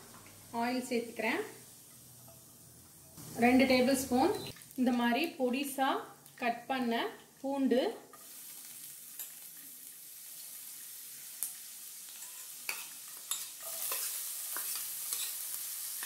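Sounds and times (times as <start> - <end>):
garlic sizzling in hot oil: 0.0 - 16.0.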